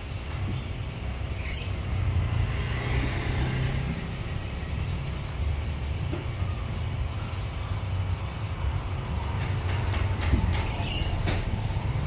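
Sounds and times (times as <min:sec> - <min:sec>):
vehicle passing with road hiss: 0:00.0 - 0:12.0.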